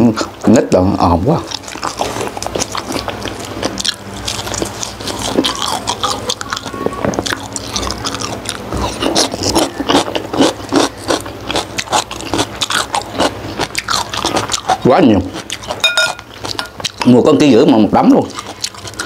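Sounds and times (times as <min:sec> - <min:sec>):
wet chewing and lip-smacking: 0:01.4 - 0:17.3, 0:18.1 - 0:19.0.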